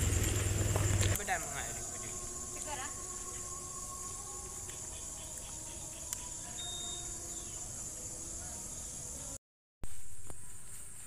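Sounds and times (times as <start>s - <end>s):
high-pitched insect chorus: 0.0s - 9.4s.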